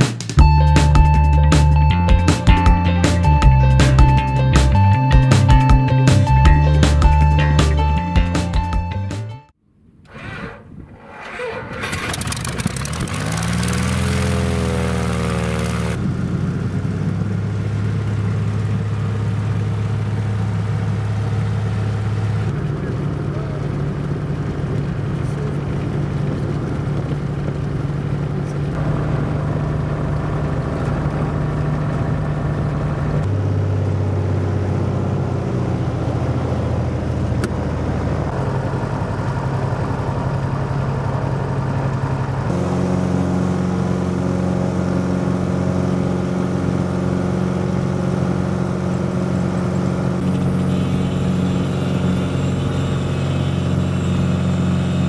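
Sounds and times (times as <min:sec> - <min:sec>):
aircraft engine and propeller drone: 0:10.5 - 0:55.0.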